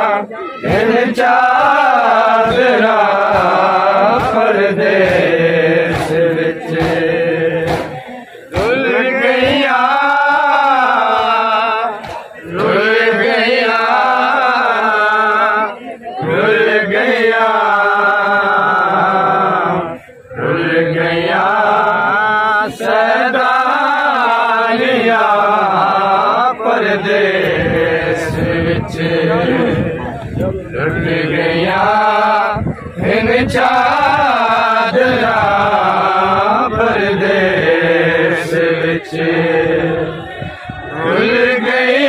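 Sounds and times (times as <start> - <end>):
men chanting a mourning lament: 0.0 - 42.0.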